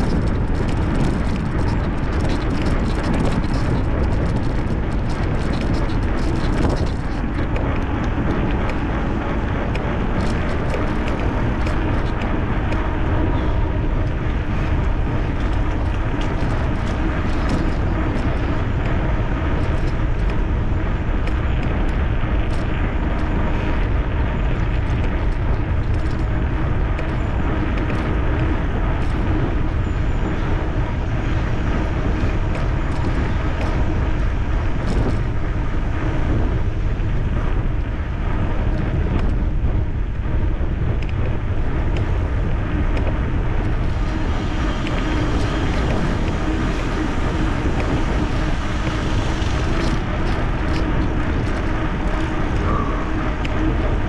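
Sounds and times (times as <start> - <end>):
electric bicycle rolling: 0.0 - 54.0
wind on microphone: 0.0 - 54.0.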